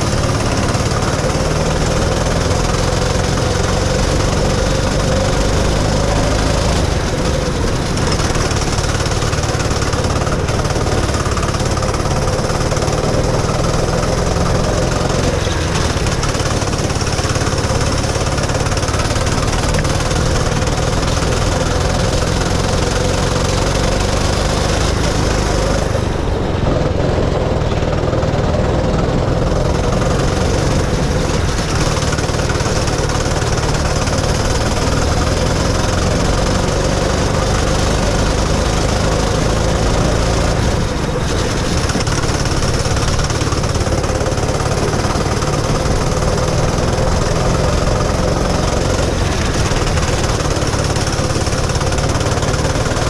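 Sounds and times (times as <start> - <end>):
go-kart engine running hard: 0.0 - 53.0.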